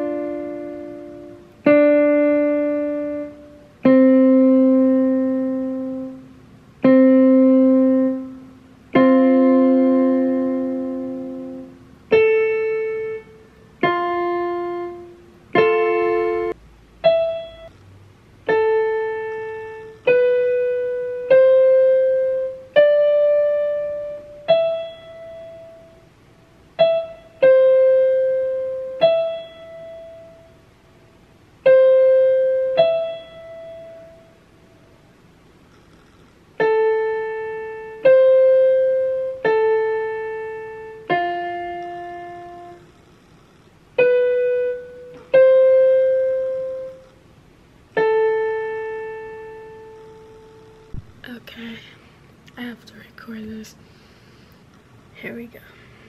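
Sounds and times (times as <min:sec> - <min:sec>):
slow piano notes on keyboard: 0:00.0 - 0:51.9.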